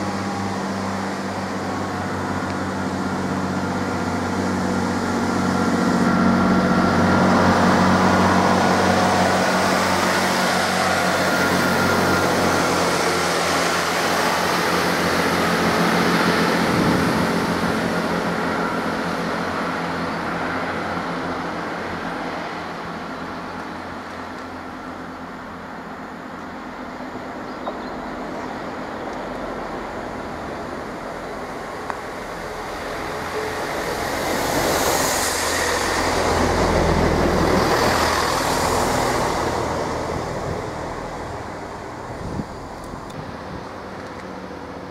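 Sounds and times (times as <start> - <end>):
diesel train engines droning: 0.0 - 44.9
wheels rumbling on rail: 0.0 - 44.9.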